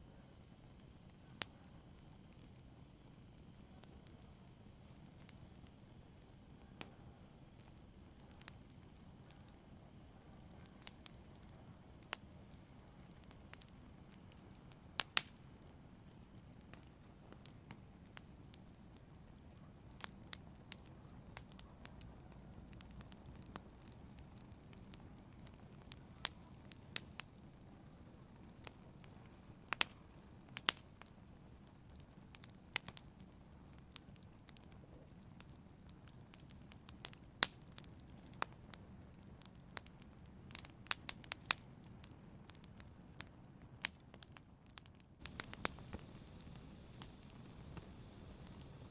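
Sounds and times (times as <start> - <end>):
low rush of flames: 0.0 - 48.9
logs crackling and popping: 0.8 - 48.9.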